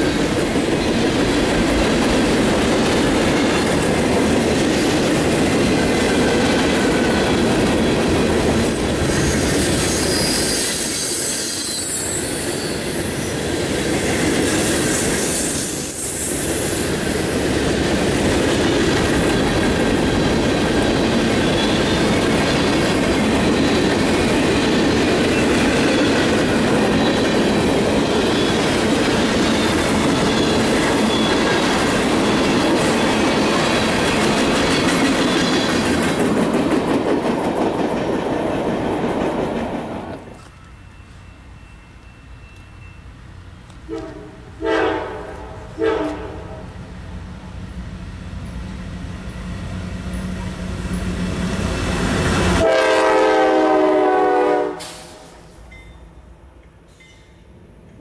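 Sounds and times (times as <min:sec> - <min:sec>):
wheels squealing on rails: 0:00.0 - 0:36.4, 0:39.1 - 0:45.0, 0:48.2 - 0:56.0
freight train cars rolling: 0:00.0 - 0:58.0.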